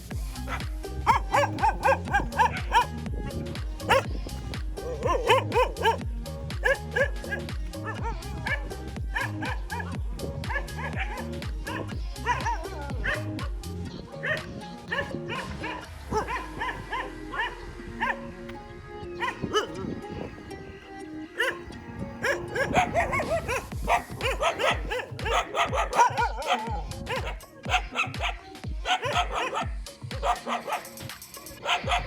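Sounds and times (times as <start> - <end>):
background music with beat: 0.0 - 32.0
dogs barking and yipping: 0.0 - 32.0.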